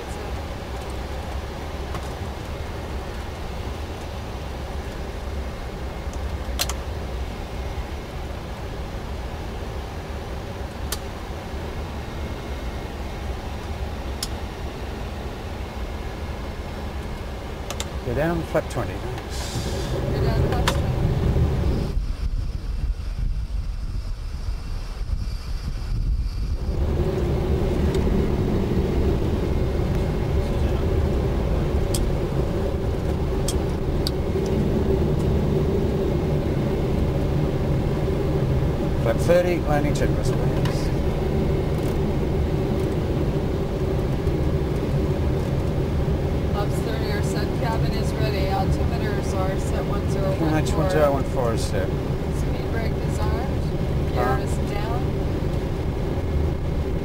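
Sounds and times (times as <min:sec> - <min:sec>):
aircraft cockpit low rumble: 0:00.0 - 0:57.0.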